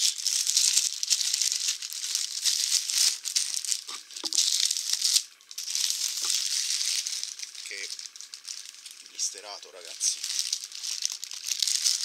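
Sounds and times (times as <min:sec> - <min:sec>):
plastic shrink-wrap crinkling: 0:00.0 - 0:12.0.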